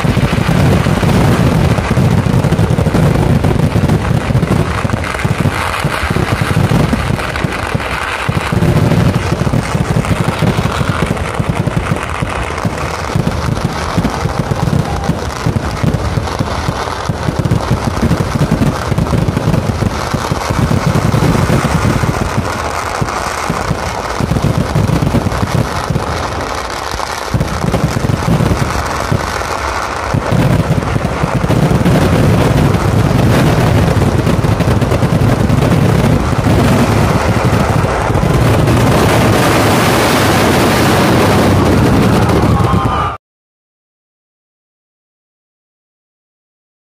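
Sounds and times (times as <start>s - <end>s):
fireworks bangs and crackling: 0.0s - 43.2s.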